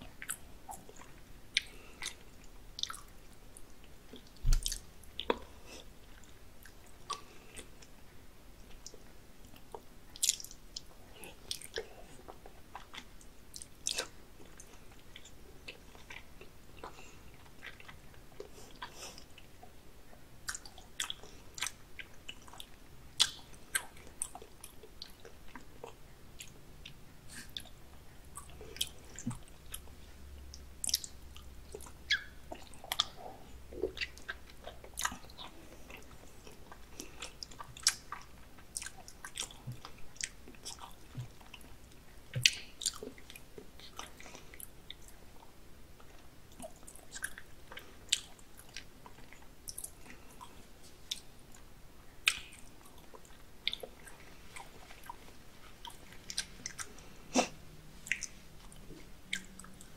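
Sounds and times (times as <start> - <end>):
chewing raw fish: 0.0 - 8.0, 8.6 - 59.9.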